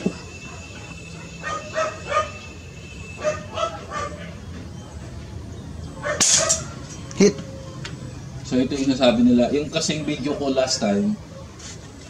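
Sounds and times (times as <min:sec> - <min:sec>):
bird calling: 0:00.0 - 0:10.8.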